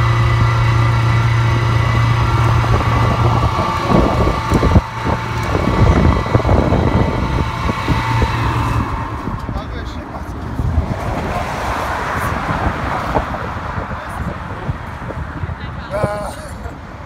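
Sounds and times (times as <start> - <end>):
engine humming: 0.0 - 17.0
rough rumbling noise: 0.0 - 17.0.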